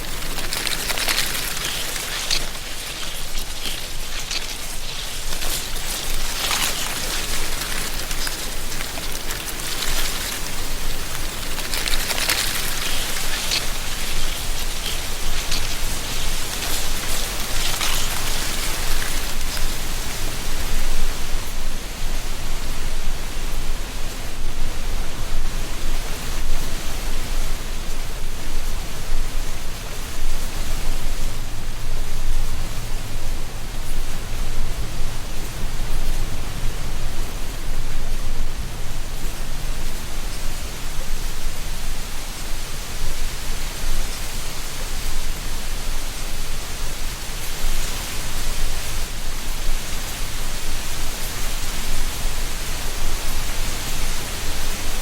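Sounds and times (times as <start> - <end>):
dry leaves rustling: 0.0 - 22.2, 25.3 - 55.0
wind through trees: 0.0 - 55.0.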